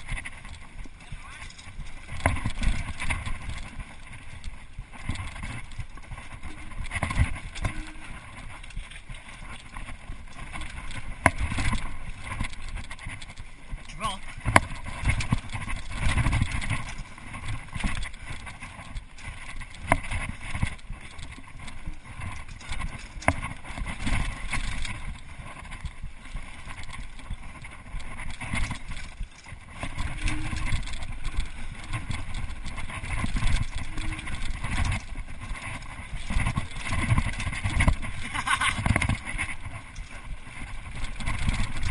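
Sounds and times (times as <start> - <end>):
bike rattling over bumps: 0.0 - 41.9
tyres rumbling on dirt: 0.0 - 41.9.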